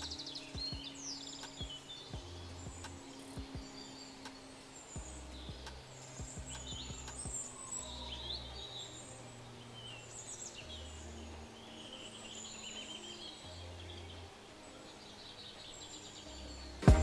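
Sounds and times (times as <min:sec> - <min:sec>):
birds chirping and trilling: 0:00.0 - 0:16.8.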